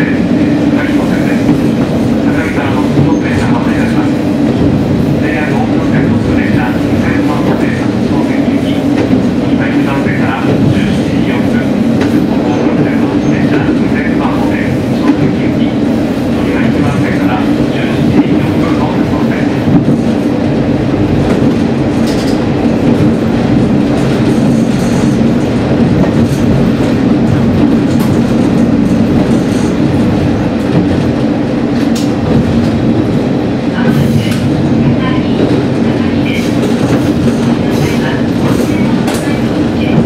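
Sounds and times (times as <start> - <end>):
railcar engine drone: 0.0 - 40.0.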